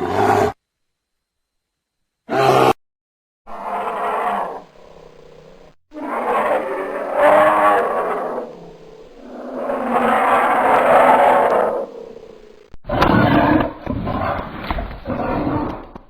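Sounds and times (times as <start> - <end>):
bear roaring and growling: 0.0 - 0.6, 2.3 - 2.8, 3.5 - 16.0.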